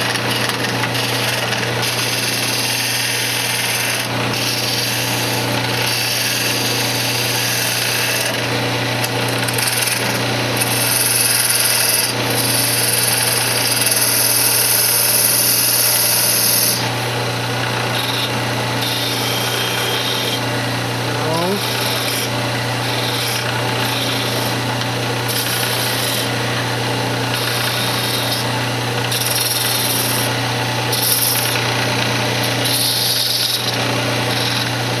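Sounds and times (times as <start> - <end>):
turning tool cutting wood: 0.0 - 35.0
wood lathe motor hum: 0.0 - 35.0.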